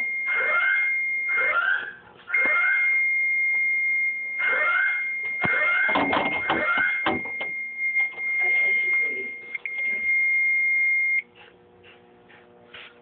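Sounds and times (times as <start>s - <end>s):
fire alarm buzzer: 0.0s - 11.3s.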